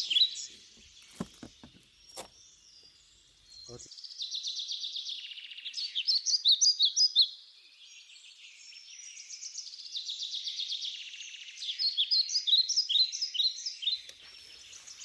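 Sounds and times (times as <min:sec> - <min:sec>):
songbird trilling and chirping: 0:00.0 - 0:15.0.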